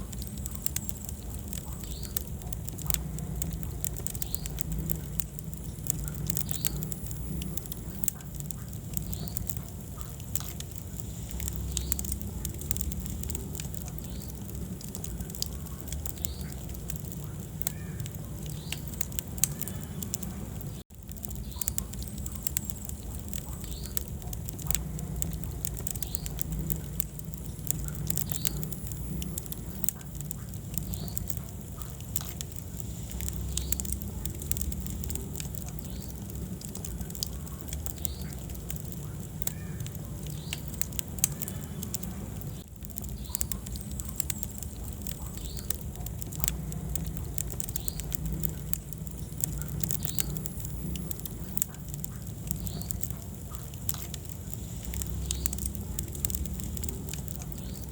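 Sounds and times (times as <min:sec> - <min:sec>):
logs crackling and popping: 0:00.0 - 0:57.9
low rumble of flames: 0:00.0 - 0:57.9.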